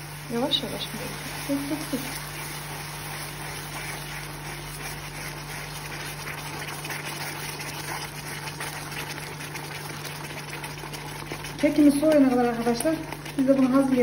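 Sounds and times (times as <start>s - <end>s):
caramel sizzling and bubbling: 0.0s - 14.0s.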